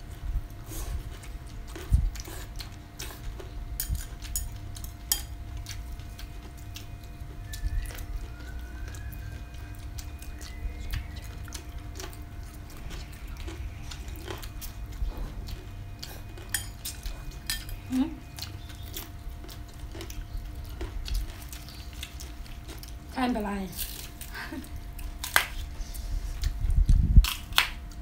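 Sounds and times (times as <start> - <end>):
faint steady hum: 0.0 - 28.0
chewing: 0.5 - 28.0.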